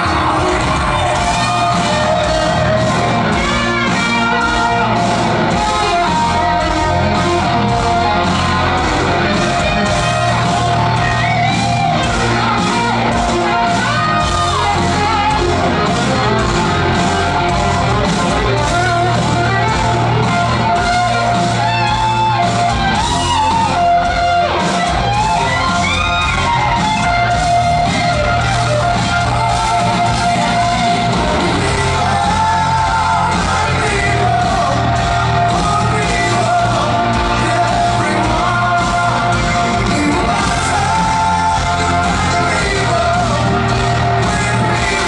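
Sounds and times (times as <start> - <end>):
distorted electric guitars: 0.0 - 45.0
steady drum beat: 0.0 - 45.0.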